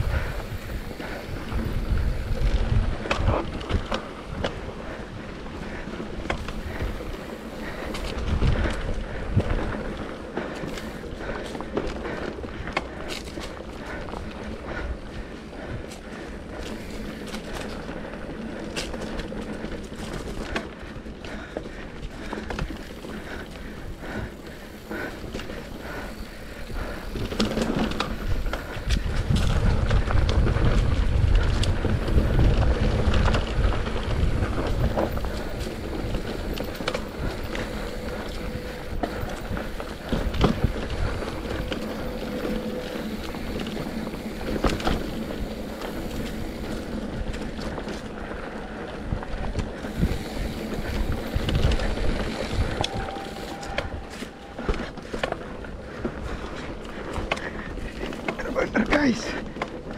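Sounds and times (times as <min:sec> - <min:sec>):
wind rumble on microphone: 0:00.0 - 0:58.8
bike rattling over bumps: 0:00.0 - 0:59.9
bike tyres on dirt: 0:00.0 - 0:59.9.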